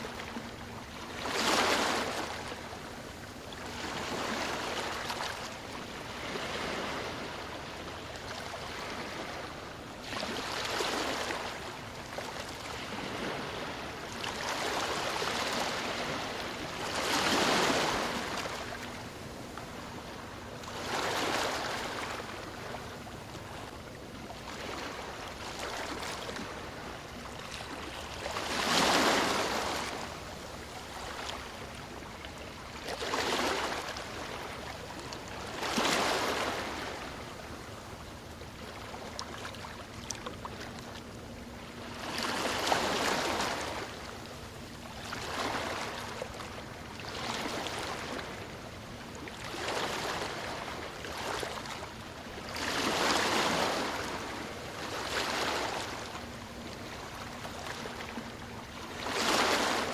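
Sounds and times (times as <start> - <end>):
ocean waves breaking: 0.0 - 37.8, 38.4 - 59.9.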